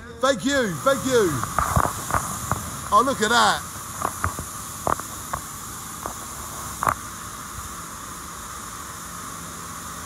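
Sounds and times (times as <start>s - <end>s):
pressure washer spraying water: 0.0s - 10.0s.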